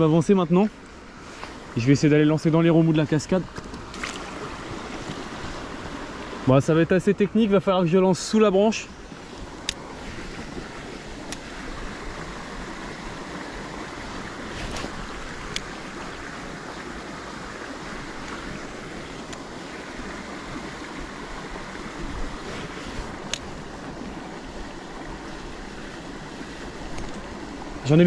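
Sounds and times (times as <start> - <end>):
stream rushing over waterfall: 0.0 - 28.0.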